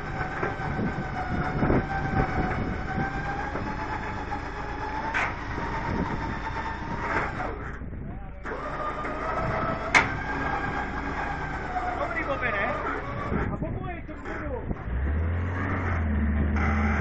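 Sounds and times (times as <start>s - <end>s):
cable winch whining: 0.0s - 17.0s
car scraping along road: 0.0s - 17.0s.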